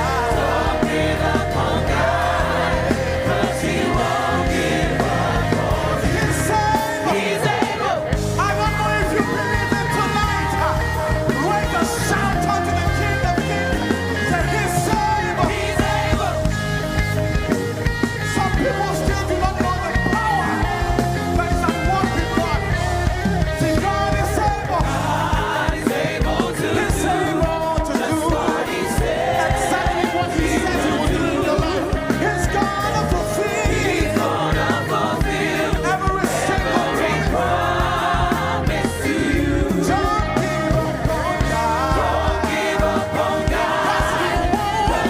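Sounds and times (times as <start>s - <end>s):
singing over band: 0.0s - 45.0s
worship band playing: 0.0s - 45.0s.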